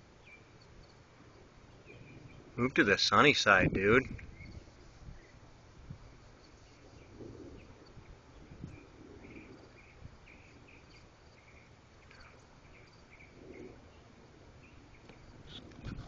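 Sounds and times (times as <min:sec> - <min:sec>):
insects chirping: 0:00.0 - 0:05.4, 0:06.1 - 0:16.0
low background hiss: 0:00.0 - 0:16.0.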